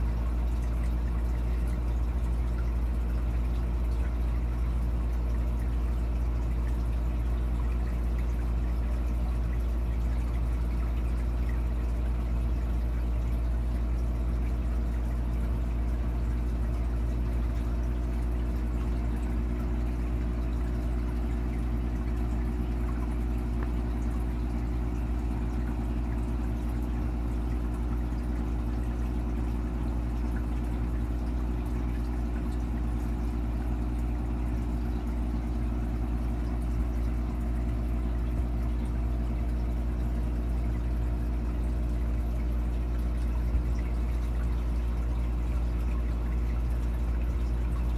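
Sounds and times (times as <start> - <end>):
aquarium filter humming: 0.0 - 47.9.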